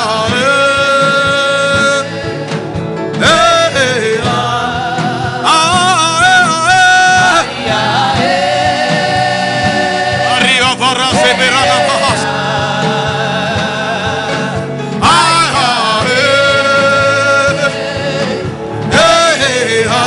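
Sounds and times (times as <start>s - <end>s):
instrumental backing with steady beat: 0.0s - 20.0s.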